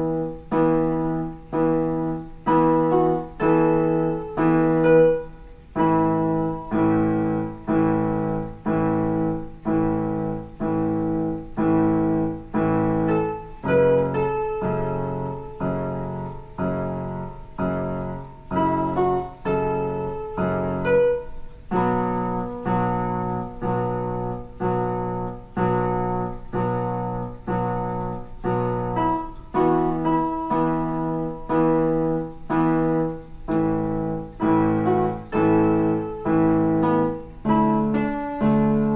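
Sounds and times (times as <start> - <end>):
electronic keyboard piano chords: 0.0 - 38.9.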